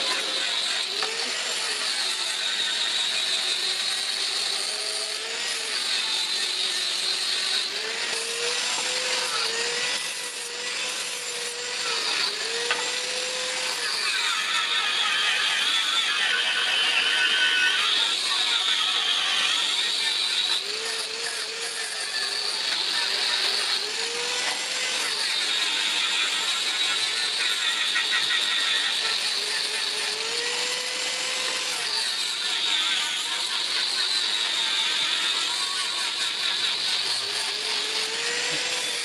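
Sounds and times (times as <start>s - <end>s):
tool grinding metal: 0.0s - 39.0s.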